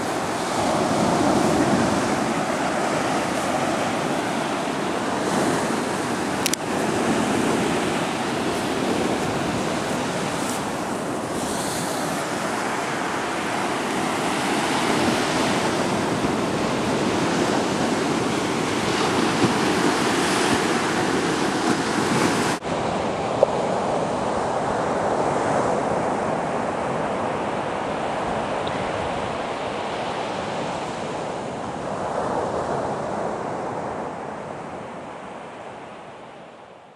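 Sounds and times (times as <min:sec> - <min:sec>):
small waves washing onto shore: 0:00.0 - 0:35.0.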